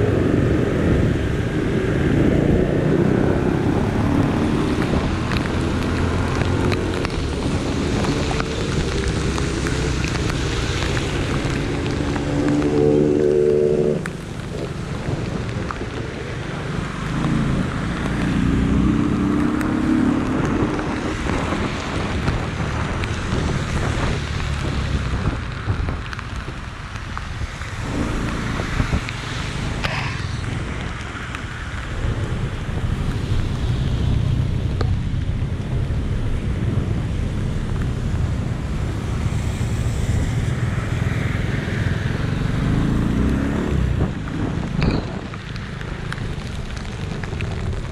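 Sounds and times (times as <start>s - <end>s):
wind buffeting microphone: 0.0s - 12.8s, 20.2s - 47.9s
rain: 0.0s - 47.9s
traffic on wet roads: 0.0s - 47.9s.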